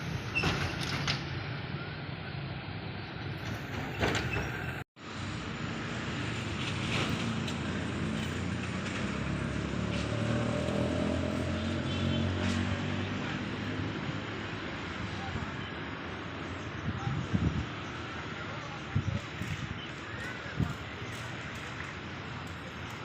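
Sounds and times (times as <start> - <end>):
vehicle engines rumbling: 0.0 - 23.0.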